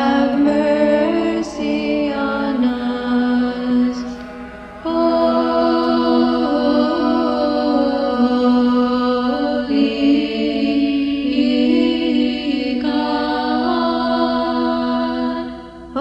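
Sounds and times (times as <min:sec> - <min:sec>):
choir chanting a cappella: 0:00.0 - 0:16.0.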